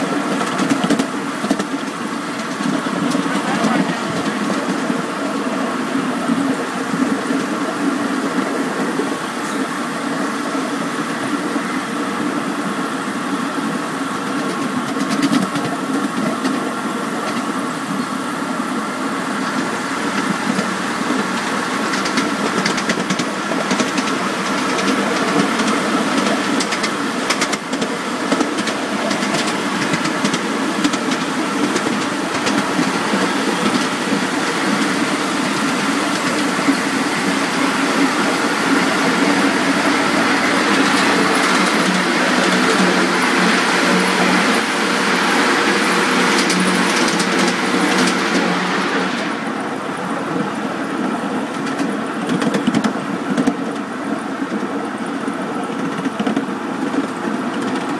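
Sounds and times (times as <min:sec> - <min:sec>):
model locomotive mechanical hum: 0:00.0 - 0:57.9.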